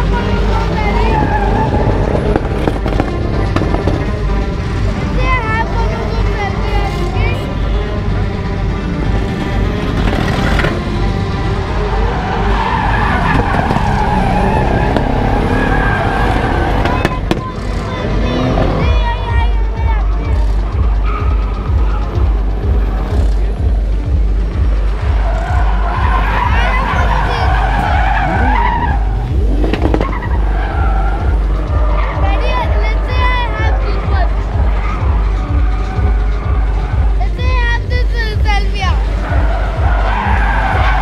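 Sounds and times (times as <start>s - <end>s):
car engine revving hard: 0.0s - 19.2s, 20.3s - 37.2s
tyres screeching: 0.0s - 41.0s.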